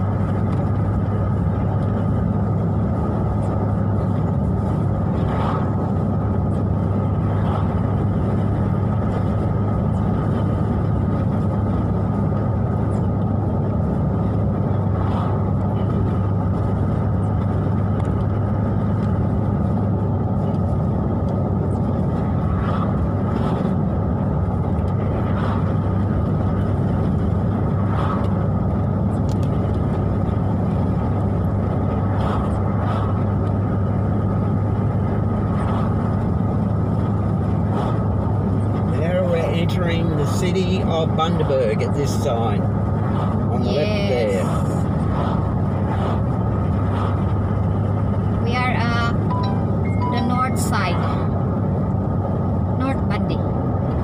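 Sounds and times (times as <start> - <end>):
car engine and tyres on wet road: 0.0 - 54.0.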